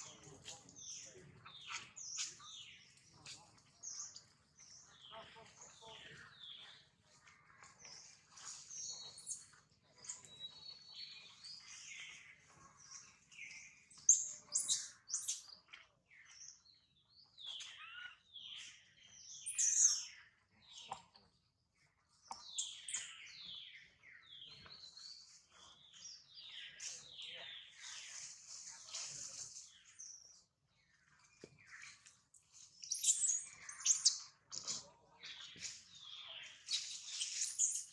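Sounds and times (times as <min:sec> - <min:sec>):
birds chirping and calling: 0:00.0 - 0:37.9.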